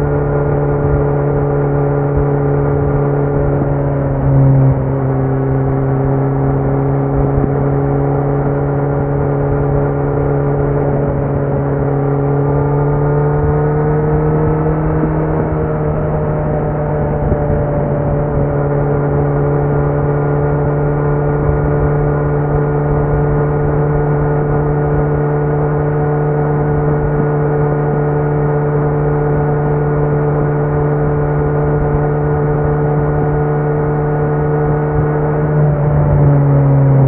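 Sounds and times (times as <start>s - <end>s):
motorcycle engine droning: 0.0s - 37.0s.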